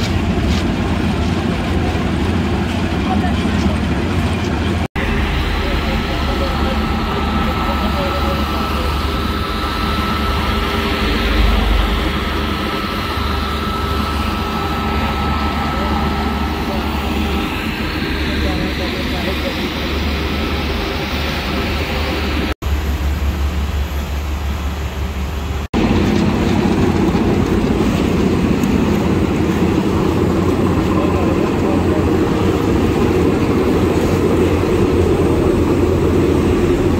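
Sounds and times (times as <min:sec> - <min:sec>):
paving machinery running: 0:00.0 - 0:36.9
road roller diesel engine rumbling: 0:00.0 - 0:36.9
thin steady whine: 0:00.0 - 0:36.9.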